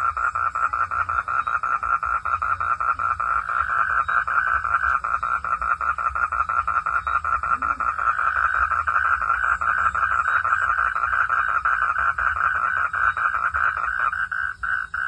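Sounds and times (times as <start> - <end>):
frogs calling in pulsing chorus: 0.0 - 15.0.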